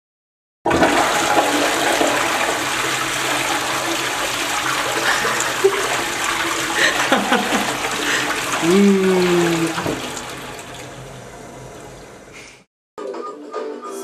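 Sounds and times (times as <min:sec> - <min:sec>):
toilet flushing: 0:00.7 - 0:12.7.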